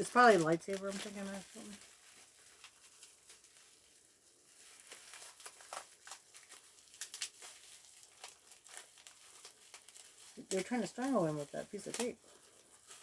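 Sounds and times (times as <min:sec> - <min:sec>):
plastic packaging crinkling: 0:00.0 - 0:13.0
sharp plastic crackles: 0:00.0 - 0:13.0.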